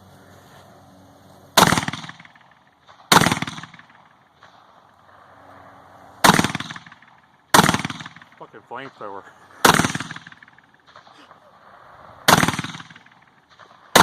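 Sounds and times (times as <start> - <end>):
rifle shots echoing: 1.6 - 5.3, 6.1 - 14.0.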